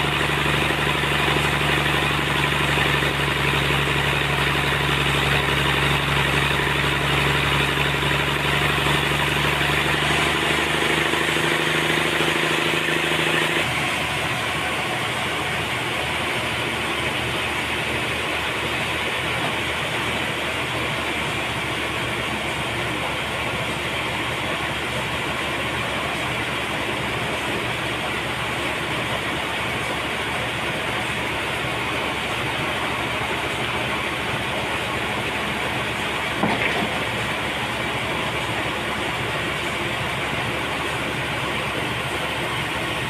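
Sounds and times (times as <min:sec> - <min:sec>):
sawmill machinery cutting log: 0:00.0 - 0:43.0.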